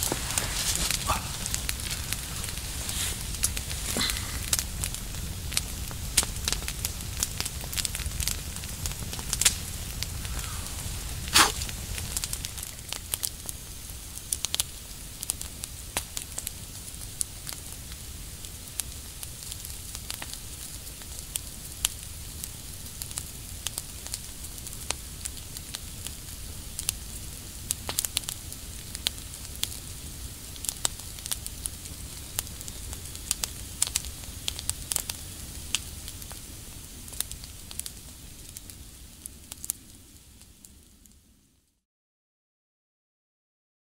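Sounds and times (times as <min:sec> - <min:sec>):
campfire hissing: 0:00.0 - 0:41.6
fire crackles and pops: 0:00.0 - 0:41.7.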